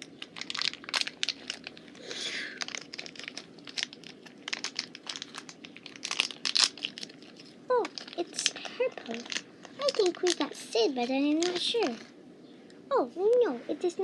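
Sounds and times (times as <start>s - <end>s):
plastic tearing: 0.0s - 12.0s
plastic bag crinkling: 0.0s - 12.1s.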